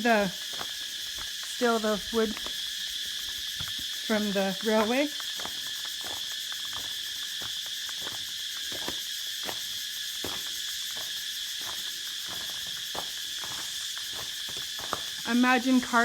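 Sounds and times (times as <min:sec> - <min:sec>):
insects chorus: 0:00.0 - 0:16.0
footsteps: 0:00.2 - 0:16.0.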